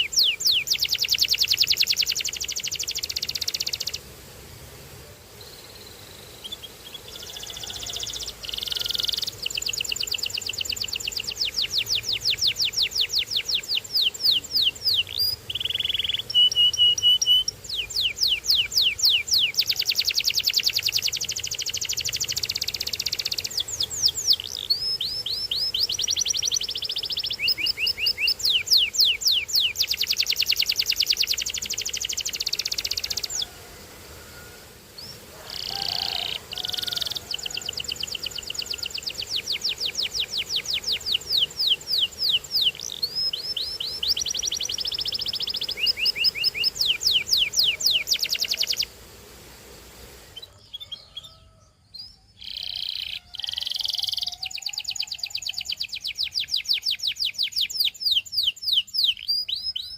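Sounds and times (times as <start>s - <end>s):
canary singing trills: 0.0s - 4.1s, 5.4s - 33.6s, 34.2s - 49.0s, 50.3s - 59.9s.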